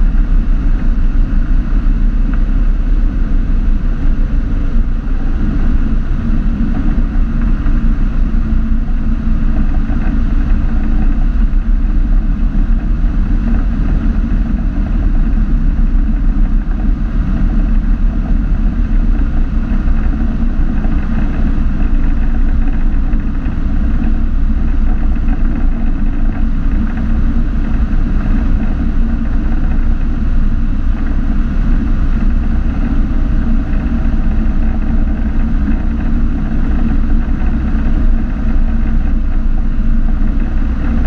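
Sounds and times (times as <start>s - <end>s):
aircraft engine droning: 0.0s - 41.0s
cabin wind noise: 0.0s - 41.0s.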